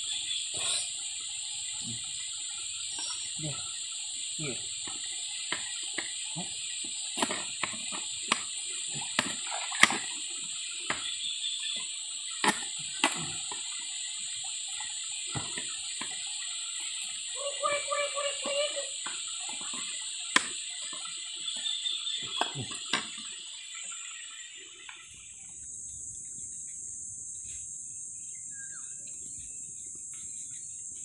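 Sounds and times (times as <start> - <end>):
stream water running: 0.0 - 26.5
high insect drone: 0.0 - 31.0.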